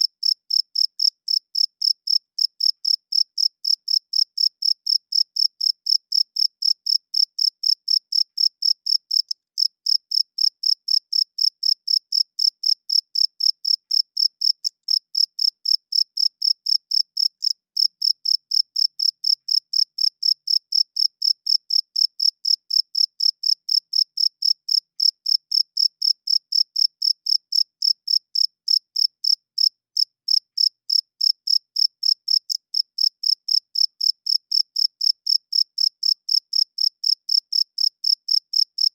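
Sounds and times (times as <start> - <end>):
cricket chirping: 0.2 - 38.9.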